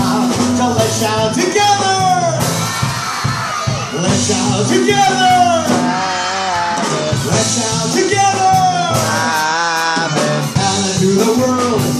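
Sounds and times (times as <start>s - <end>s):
instrumental backing with beat: 0.0s - 11.9s
upbeat children's song singing: 0.0s - 11.9s.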